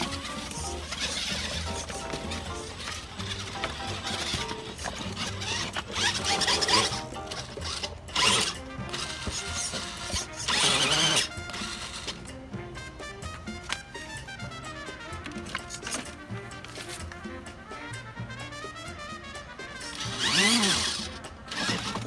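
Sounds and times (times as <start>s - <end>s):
background music: 0.0s - 22.0s
toy truck motor whirring: 0.0s - 22.0s.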